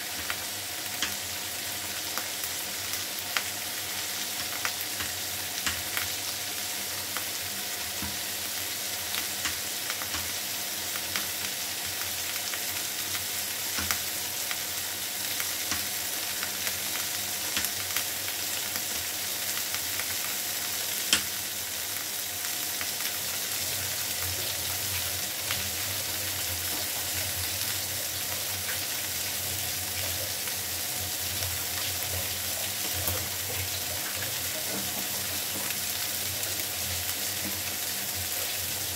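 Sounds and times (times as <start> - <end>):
vegetables sizzling in a pan: 0.0 - 38.9.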